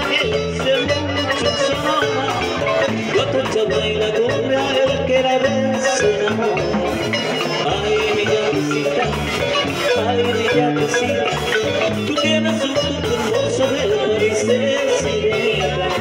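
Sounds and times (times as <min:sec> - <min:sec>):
drum kit: 0:00.0 - 0:16.0
electric bass: 0:00.0 - 0:16.0
marimba melody: 0:00.0 - 0:16.0.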